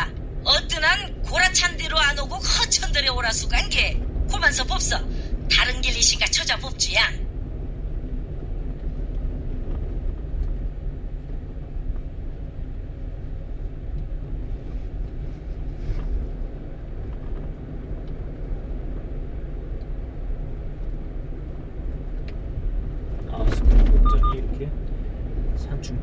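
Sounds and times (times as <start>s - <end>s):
truck engine and tyre rumble: 0.0s - 26.0s.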